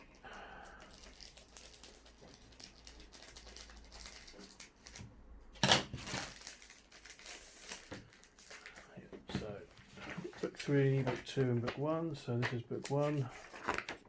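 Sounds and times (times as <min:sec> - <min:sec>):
paper rustling and crinkling: 0:00.8 - 0:14.0.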